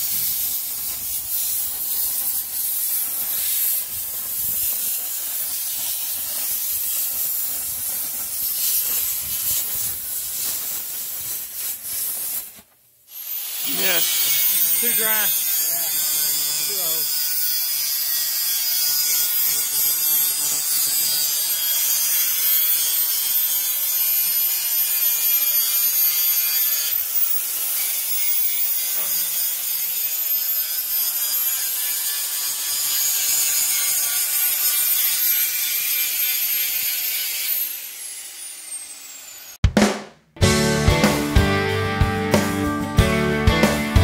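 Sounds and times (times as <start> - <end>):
grinder grinding steel: 0.0 - 39.6.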